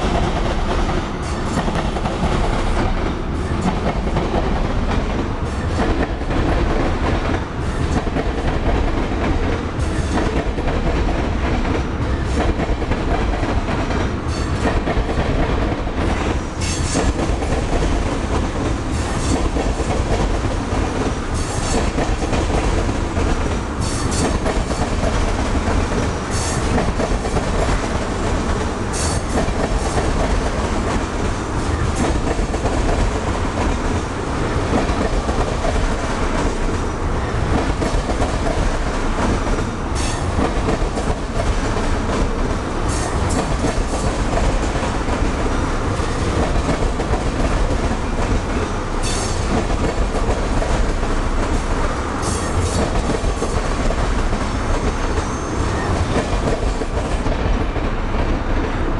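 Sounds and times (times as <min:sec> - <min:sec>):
rumble of train wheels on rail: 0:00.0 - 0:58.9.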